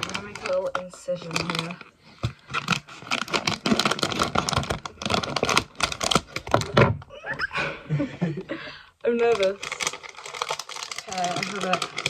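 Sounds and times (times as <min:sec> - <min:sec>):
packaging crackling: 0:00.0 - 0:06.8, 0:09.1 - 0:12.0.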